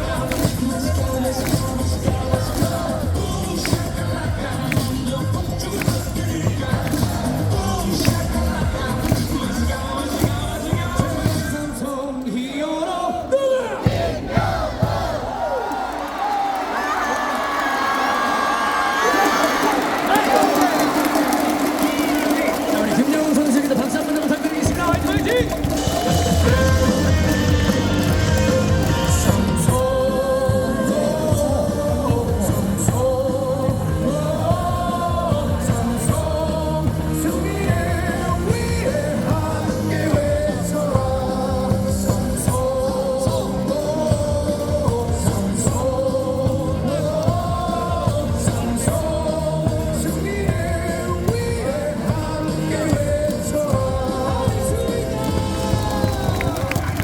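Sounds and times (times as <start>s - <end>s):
cheering song over loudspeakers: 0.0s - 57.0s.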